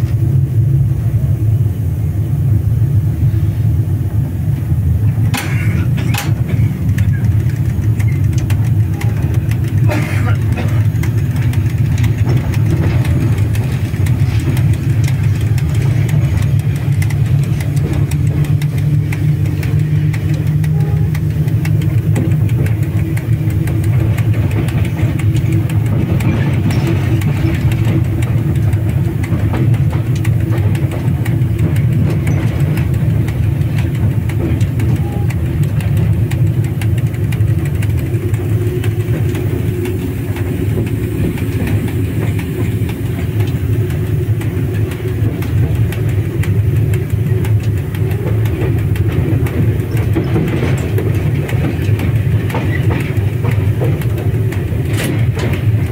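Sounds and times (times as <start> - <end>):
locomotive machinery drone: 0.0 - 55.9.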